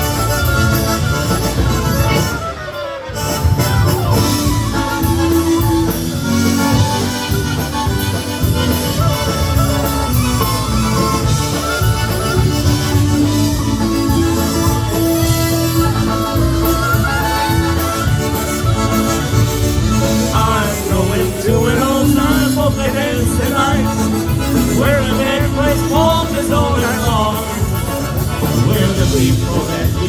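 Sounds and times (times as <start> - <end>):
polka band playing: 0.0 - 30.0.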